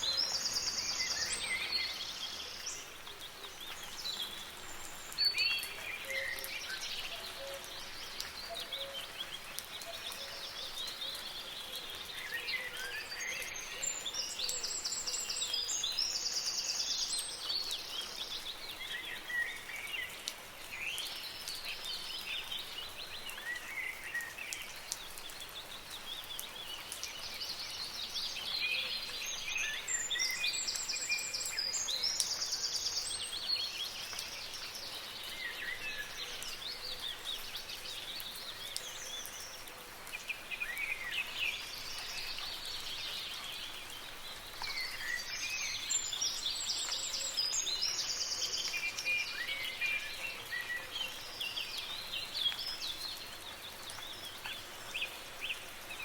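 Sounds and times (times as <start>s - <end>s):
light rain hiss: 0.0s - 56.0s
songbirds singing and twittering: 0.0s - 56.0s.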